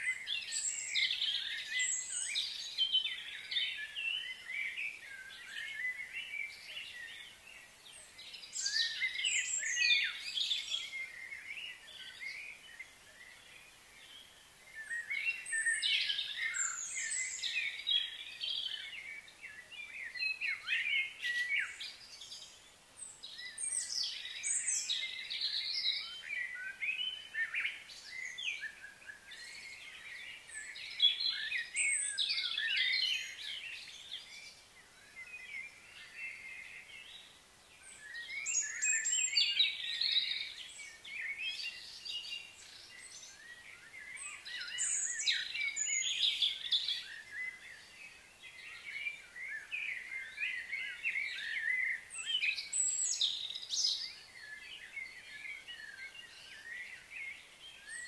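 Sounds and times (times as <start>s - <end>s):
wild birds chirping and singing: 0.0s - 58.0s.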